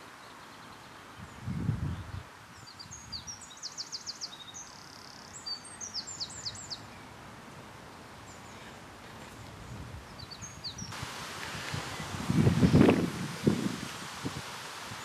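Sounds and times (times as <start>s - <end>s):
outdoor background hiss: 0.0s - 15.0s
songbird singing: 0.0s - 15.0s.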